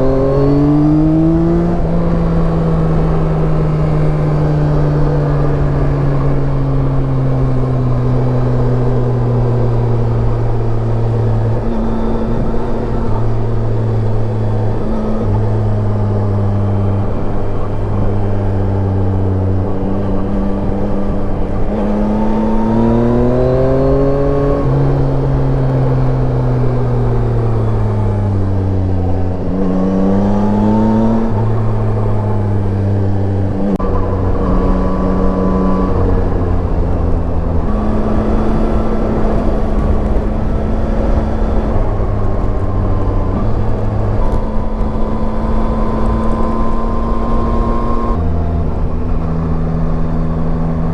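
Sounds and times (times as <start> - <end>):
motorcycle engine revving: 0.0 - 50.9
wind noise: 0.0 - 50.9.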